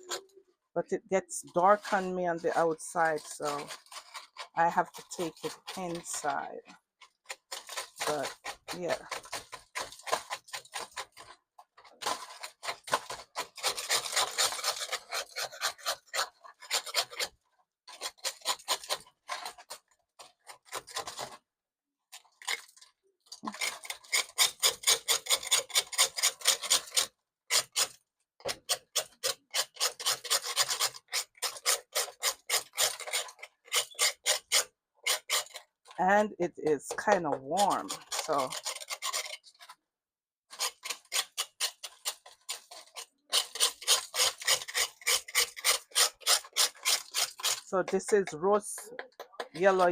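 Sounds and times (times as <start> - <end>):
knife scraping charred yam skin: 1.4 - 6.6, 7.2 - 11.4, 12.0 - 21.4, 22.4 - 36.0, 37.7 - 39.8, 40.5 - 49.9.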